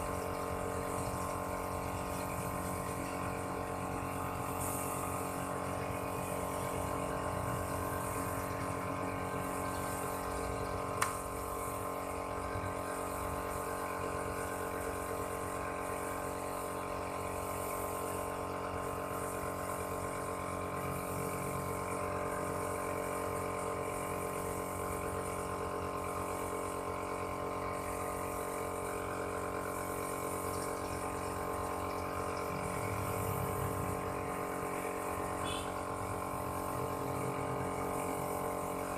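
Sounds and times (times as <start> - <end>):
spray gun air hiss: 0.0 - 8.3, 12.8 - 38.9
air compressor motor humming: 0.0 - 38.9.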